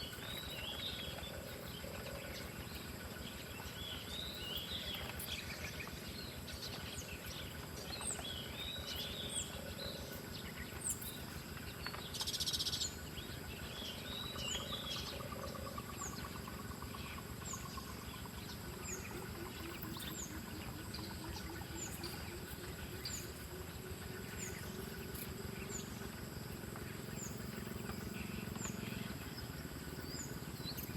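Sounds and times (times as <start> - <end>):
birds chirping and twittering: 0.0 - 30.9
high insect drone: 0.0 - 30.9.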